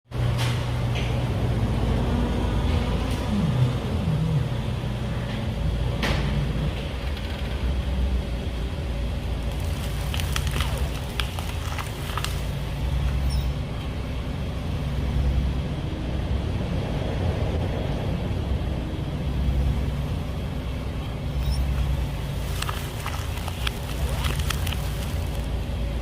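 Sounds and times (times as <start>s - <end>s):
car engine low rumble: 0.1s - 26.0s.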